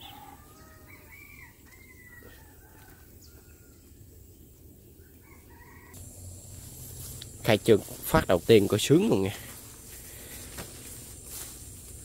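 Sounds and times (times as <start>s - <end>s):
low outdoor background: 0.0s - 12.0s.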